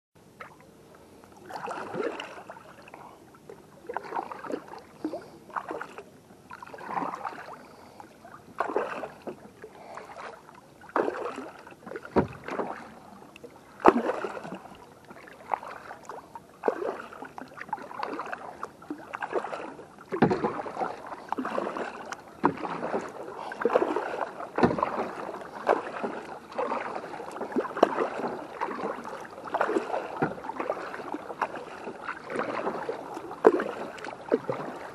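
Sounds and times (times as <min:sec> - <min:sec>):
paddle splashing in water: 0:00.3 - 0:34.9.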